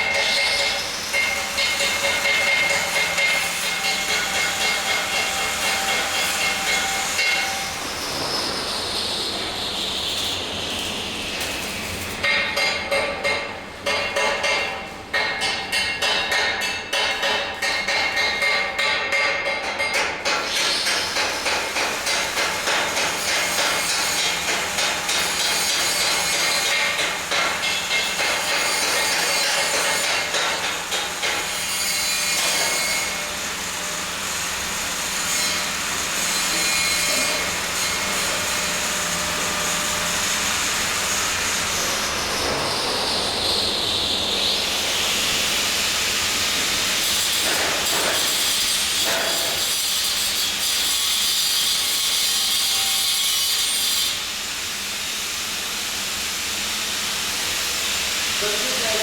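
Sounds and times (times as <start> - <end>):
metalworking noise: 0.0 - 59.0.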